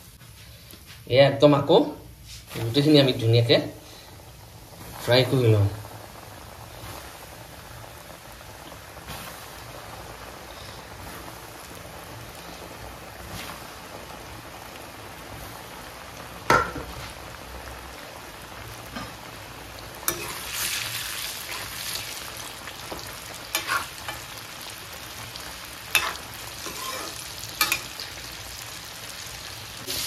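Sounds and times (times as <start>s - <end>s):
hot oil bubbling and sizzling: 0.0s - 30.0s.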